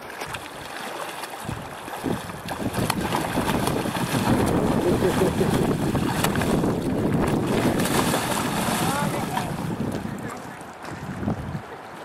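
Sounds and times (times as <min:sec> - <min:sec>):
fish splashing in water: 0:00.0 - 0:10.0.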